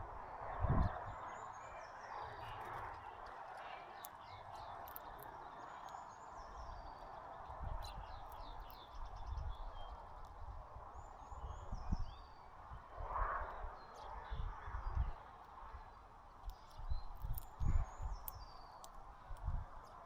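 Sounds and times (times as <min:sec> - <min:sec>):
small birds chirping: 0:00.6 - 0:12.7, 0:13.3 - 0:20.0.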